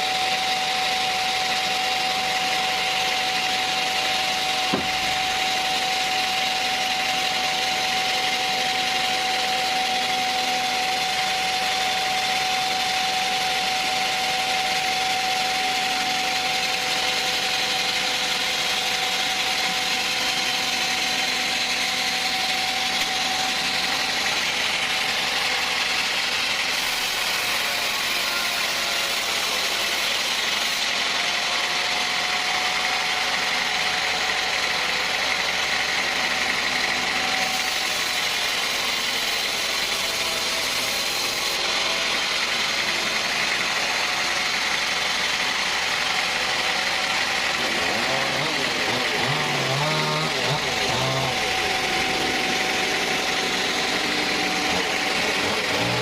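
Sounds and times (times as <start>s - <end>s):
machinery motor drone: 0.0s - 56.0s
steady machine whine: 0.0s - 56.0s.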